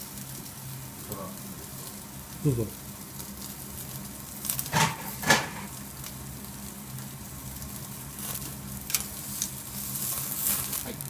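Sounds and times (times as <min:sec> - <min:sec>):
fat flaring on coals: 0:00.0 - 0:11.0
steak sizzling on a grill: 0:00.0 - 0:11.0.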